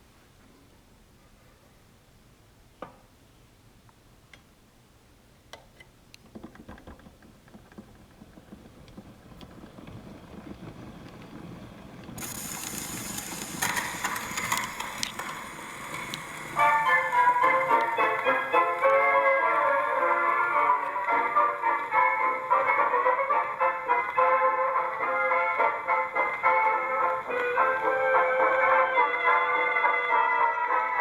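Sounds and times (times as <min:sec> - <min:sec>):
record surface hiss and crackle: 0:00.0 - 0:31.0.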